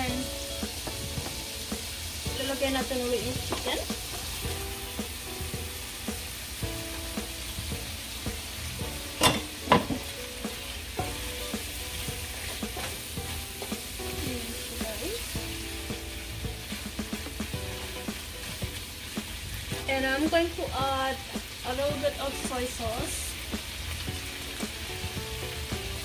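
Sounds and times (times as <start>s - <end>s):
chicken and onions sizzling: 0.0s - 26.0s.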